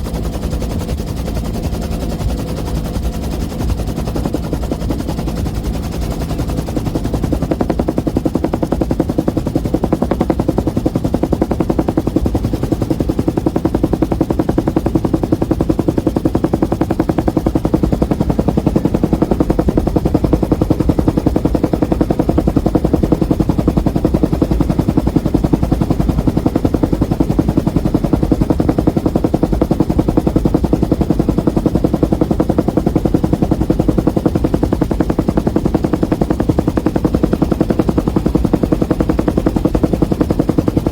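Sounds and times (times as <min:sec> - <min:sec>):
helicopter rotor whop: 0:00.0 - 0:40.9
turbine drone: 0:00.0 - 0:40.9.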